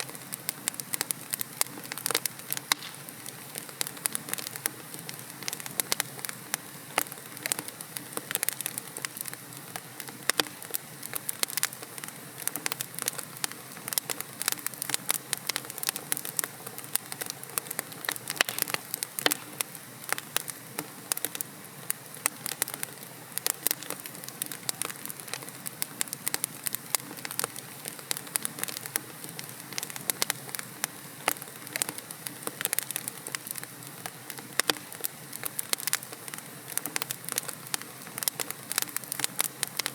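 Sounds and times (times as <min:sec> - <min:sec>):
logs burning in fireplace: 0:00.0 - 0:39.9.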